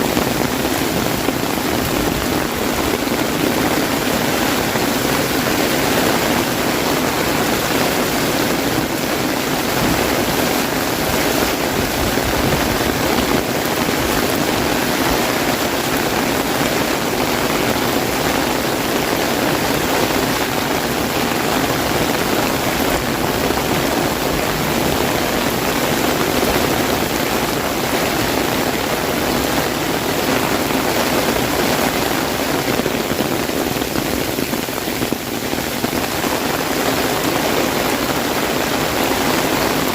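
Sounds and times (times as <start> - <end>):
heavy rain on umbrella: 0.0 - 39.9.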